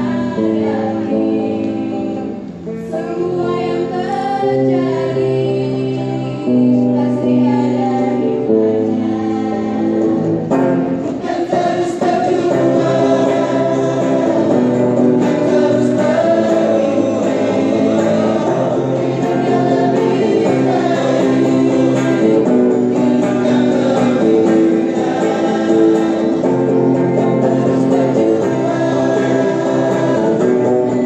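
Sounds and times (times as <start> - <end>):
choir singing held notes: 0.0 - 31.0
guitar: 0.0 - 31.0.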